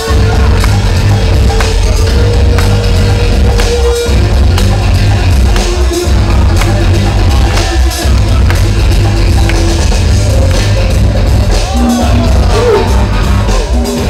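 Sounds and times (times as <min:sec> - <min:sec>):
loud music with heavy bass: 0:00.0 - 0:14.0.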